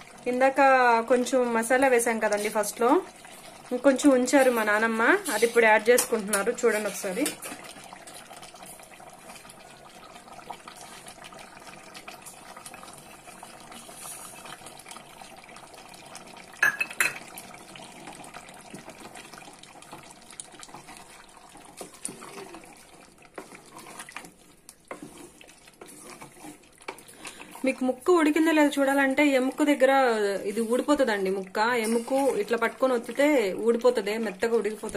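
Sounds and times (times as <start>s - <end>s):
curry bubbling in a pot: 0.0s - 34.9s
stirring with scraping and sloshing: 0.0s - 34.9s.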